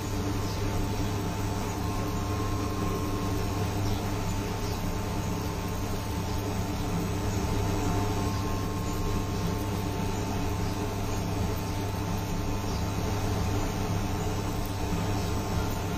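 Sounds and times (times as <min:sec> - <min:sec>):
cooktop hum and fan noise: 0:00.0 - 0:15.9.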